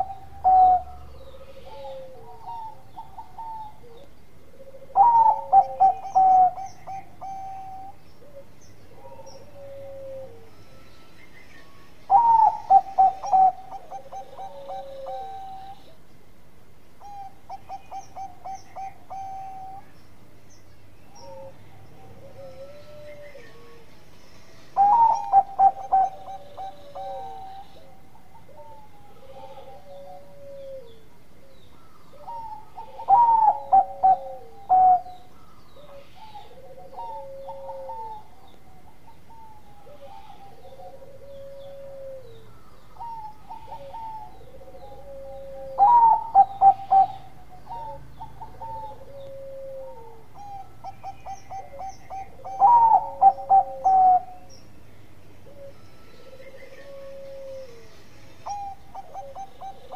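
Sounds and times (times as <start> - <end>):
dove cooing: 0.0 - 11.1, 11.7 - 16.1, 17.0 - 20.0, 21.1 - 54.6, 55.4 - 59.9.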